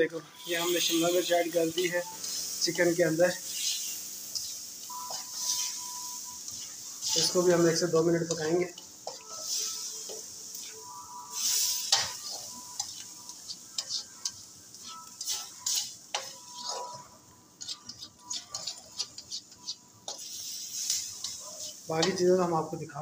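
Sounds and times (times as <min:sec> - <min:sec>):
food sizzling in oil: 0:00.0 - 0:23.0
spatula scraping a metal wok: 0:00.4 - 0:22.4.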